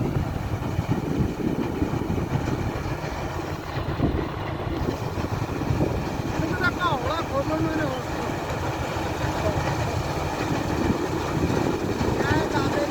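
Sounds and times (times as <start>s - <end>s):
combine harvester rumbling: 0.0s - 12.9s.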